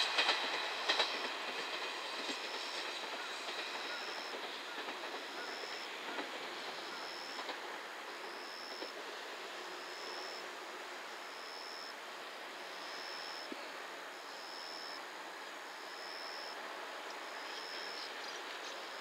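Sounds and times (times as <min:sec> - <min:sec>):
distant vehicle rumble and hiss: 0:00.0 - 0:19.0.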